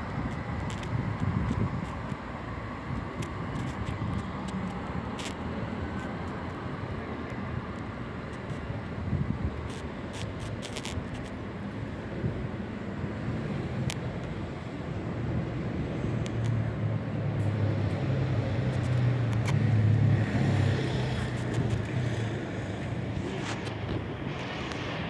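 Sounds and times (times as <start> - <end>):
train engine and running noise: 0.0 - 25.0.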